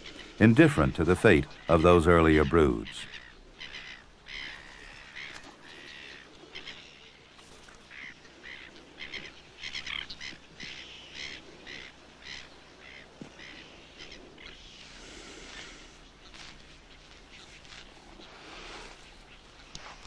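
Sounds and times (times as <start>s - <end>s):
birds honking: 0.0s - 19.7s.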